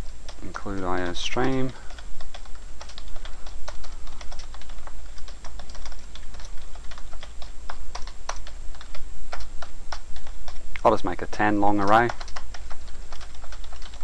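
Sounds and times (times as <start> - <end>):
steady low hum: 0.0 - 14.0
keyboard typing clicks: 0.3 - 10.9, 11.7 - 14.0.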